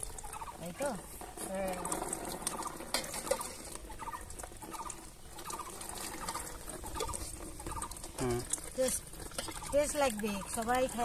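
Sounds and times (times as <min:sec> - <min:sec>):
wet squelching of fruit pulp: 0:00.0 - 0:11.0.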